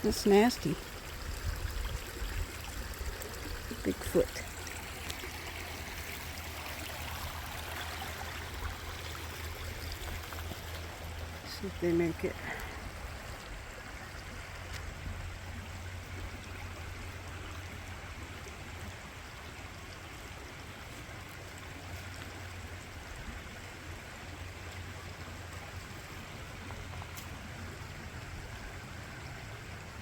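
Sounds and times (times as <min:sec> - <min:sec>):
stream running over rocks: 0:00.0 - 0:30.0.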